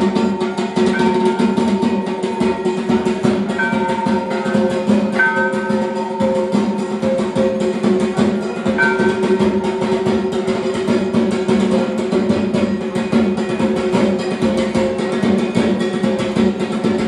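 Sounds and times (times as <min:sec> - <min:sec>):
music with quick drum beat: 0:00.0 - 0:17.0.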